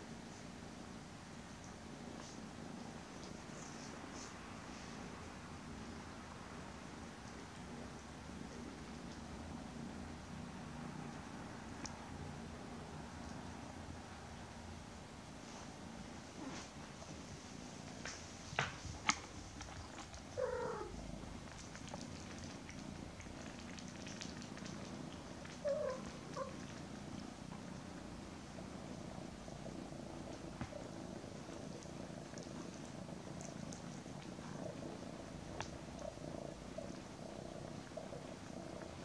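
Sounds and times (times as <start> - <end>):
cats purring: 0.0 - 39.0.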